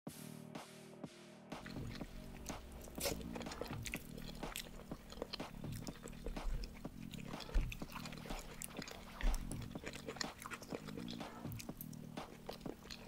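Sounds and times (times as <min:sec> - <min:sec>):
quiet background music: 0:00.1 - 0:13.0
chewing noodles close up: 0:01.6 - 0:13.0
sharp mouth clicks: 0:01.6 - 0:13.0.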